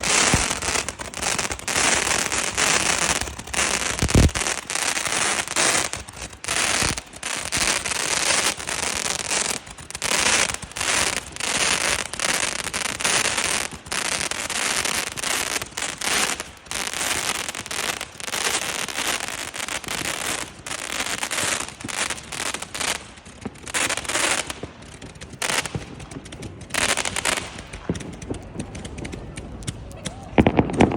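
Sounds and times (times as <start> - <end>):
fireworks crackling bursts: 0.0 - 30.9.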